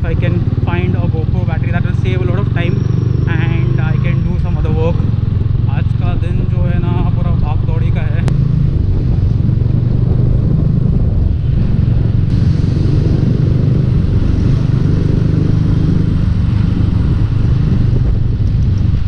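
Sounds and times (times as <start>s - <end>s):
low road rumble: 0.0s - 19.0s
motorcycle engine running: 0.0s - 19.0s.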